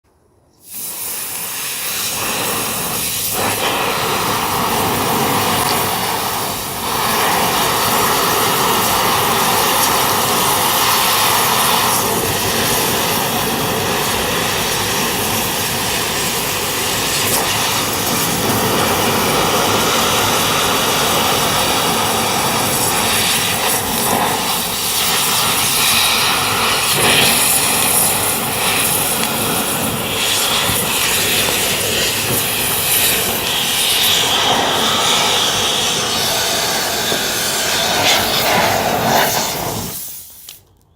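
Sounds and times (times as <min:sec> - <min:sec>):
rush of air: 0:00.6 - 0:40.6
blower motor running: 0:02.0 - 0:40.0.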